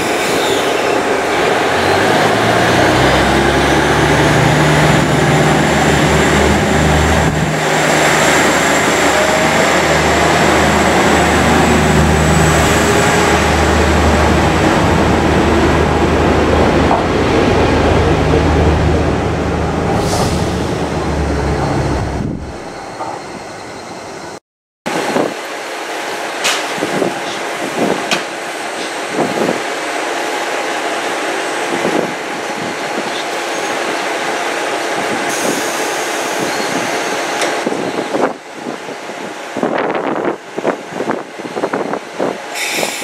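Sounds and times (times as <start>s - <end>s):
diesel railcar engine drone: 0.0s - 43.0s
railcar idling hum: 0.0s - 43.0s.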